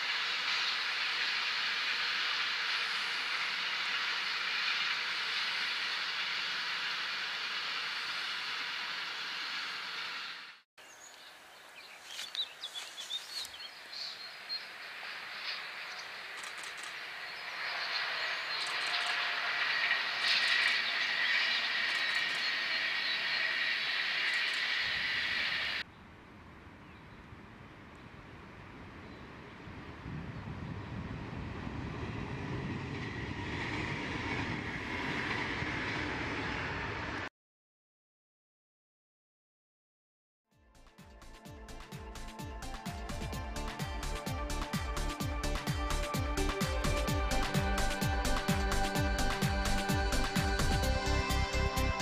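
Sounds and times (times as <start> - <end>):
passenger train passing: 0.0 - 10.6, 14.2 - 25.9, 27.8 - 37.3, 41.3 - 52.0
train whine: 0.0 - 10.6, 14.2 - 25.9, 27.8 - 37.3, 41.3 - 52.0.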